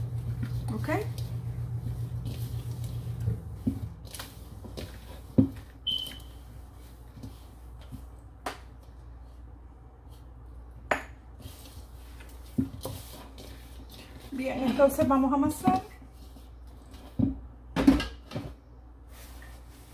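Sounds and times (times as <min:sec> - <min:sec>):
hands mixing paste in plastic bowl: 0:00.0 - 0:17.5.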